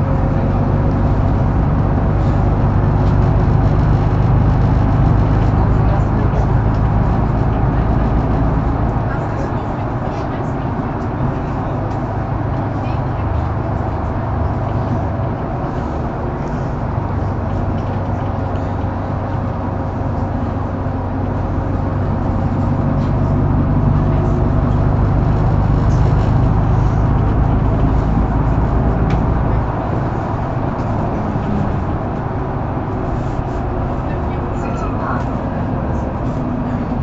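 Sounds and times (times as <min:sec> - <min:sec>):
bus diesel engine drone: 0:00.0 - 0:37.0
road noise: 0:00.0 - 0:37.0.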